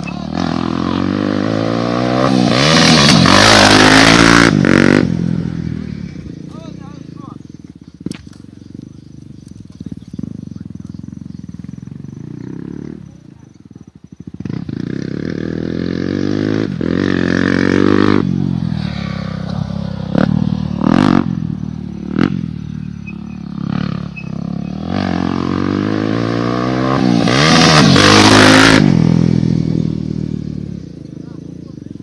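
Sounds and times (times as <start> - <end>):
motocross bike engine revving: 0.0 - 32.0.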